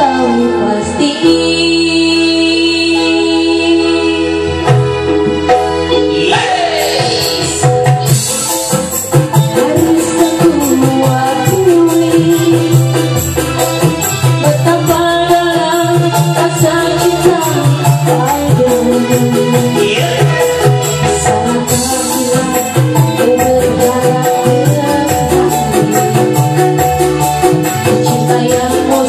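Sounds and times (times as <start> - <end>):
woman singing: 0.0 - 4.8, 9.2 - 29.0
music with a steady beat: 4.6 - 29.0.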